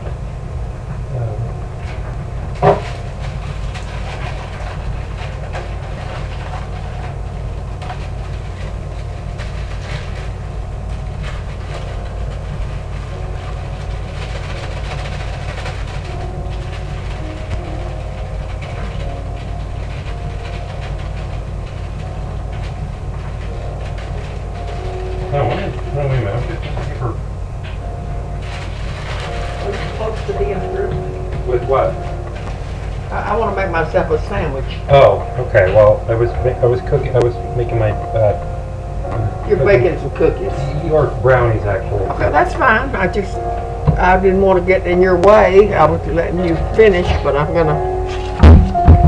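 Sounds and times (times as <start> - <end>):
steady low rumble: 0.0 - 49.0.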